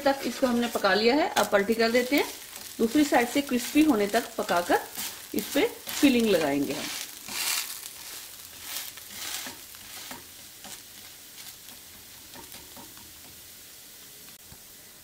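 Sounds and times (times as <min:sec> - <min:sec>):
wooden spatula scraping: 0:00.0 - 0:13.1
dosa sizzling in oil: 0:00.0 - 0:15.0.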